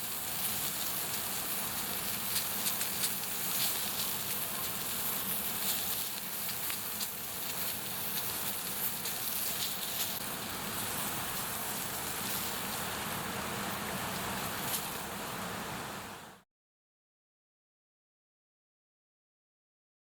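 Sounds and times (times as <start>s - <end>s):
bonfire crackling: 0.0s - 16.3s
sizzling hiss: 0.0s - 16.4s.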